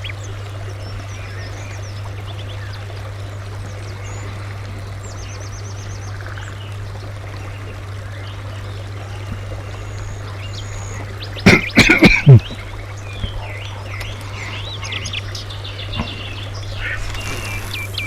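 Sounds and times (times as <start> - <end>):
flowing river water: 0.0 - 18.0
small birds chirping: 0.0 - 18.0.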